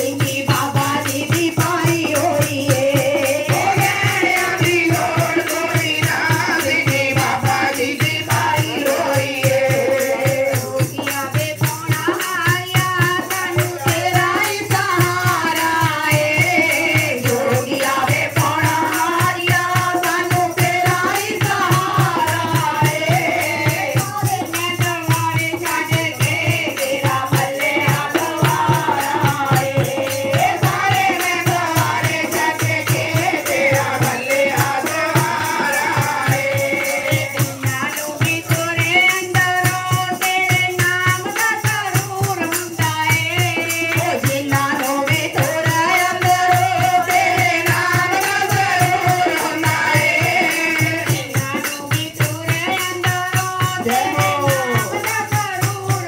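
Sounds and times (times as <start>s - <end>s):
hand drum fast rhythm: 0.0s - 56.0s
women singing into microphones: 0.0s - 56.0s.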